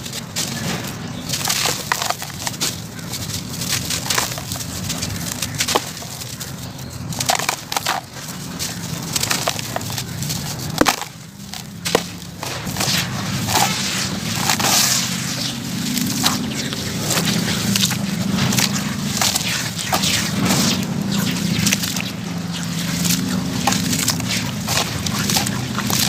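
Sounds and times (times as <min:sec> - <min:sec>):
hands crunching dry cement mix: 0:00.0 - 0:26.0
wet mix squishing: 0:00.0 - 0:26.0.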